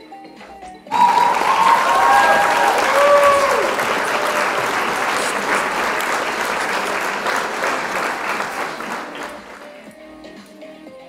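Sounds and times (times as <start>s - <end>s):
crowd applauding: 0.9s - 10.0s.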